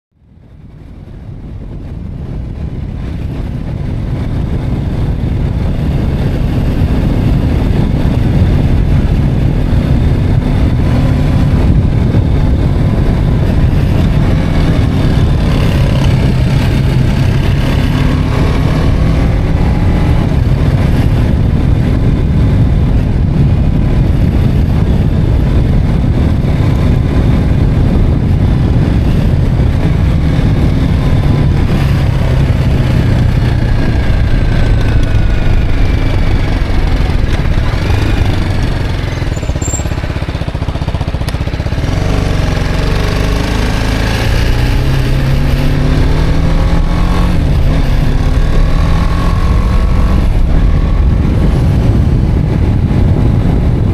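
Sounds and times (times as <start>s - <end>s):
motorcycle engine rumbling: 0.2s - 53.9s.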